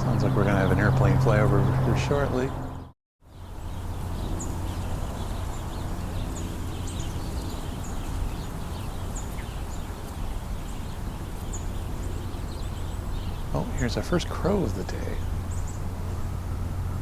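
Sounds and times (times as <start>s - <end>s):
steady low rumble: 0.0s - 2.9s, 3.6s - 17.0s
high bird chirps: 0.0s - 15.9s.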